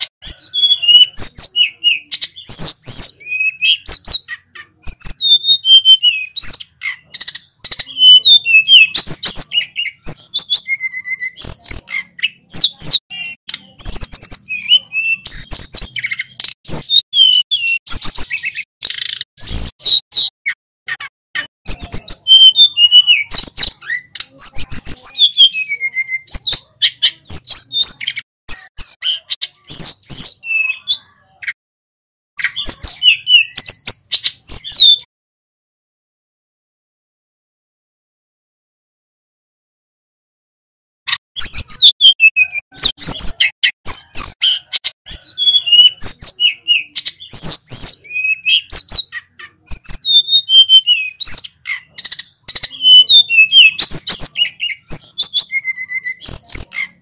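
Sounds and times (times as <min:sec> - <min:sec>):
bird singing whistled phrases: 0:00.0 - 0:20.3, 0:20.9 - 0:31.6, 0:32.4 - 0:35.1, 0:41.4 - 0:57.0.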